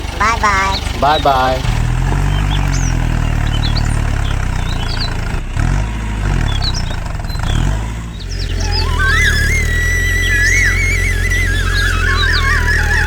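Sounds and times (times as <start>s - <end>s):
engine running: 0.0s - 13.0s
small birds chirping: 0.0s - 13.0s.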